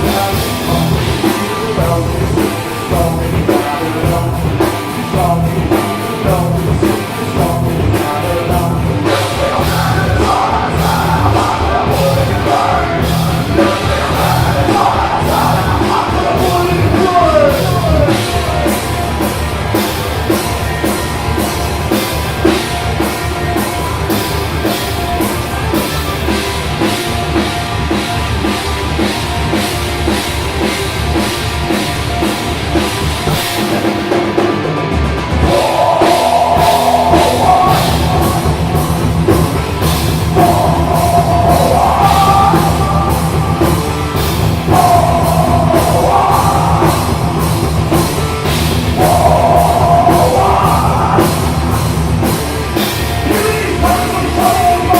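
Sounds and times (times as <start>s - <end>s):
driving drum kit beat: 0.0s - 54.9s
live rock band playing: 0.0s - 54.9s.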